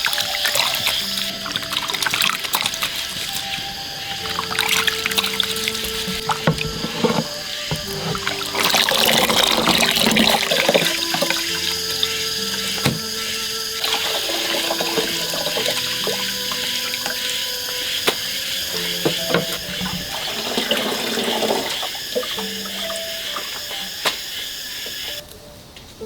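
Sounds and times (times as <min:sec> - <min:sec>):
running water splashing: 0:00.0 - 0:25.2.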